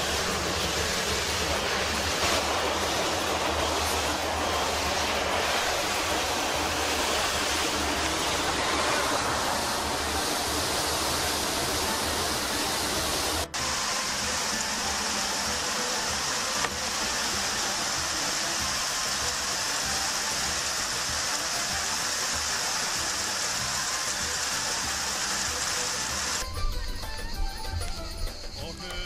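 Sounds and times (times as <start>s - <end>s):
machine rushing water noise: 0.0s - 28.2s.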